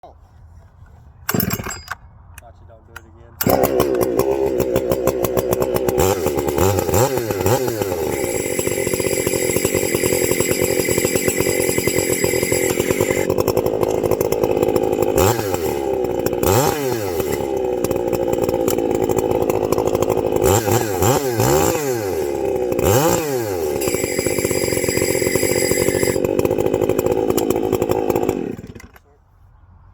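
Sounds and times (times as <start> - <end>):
chainsaw engine running: 1.3 - 29.1.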